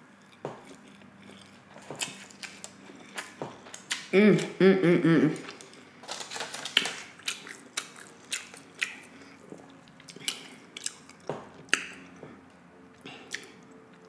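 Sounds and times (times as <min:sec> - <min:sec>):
person chewing food: 0:00.0 - 0:04.5, 0:05.4 - 0:14.0.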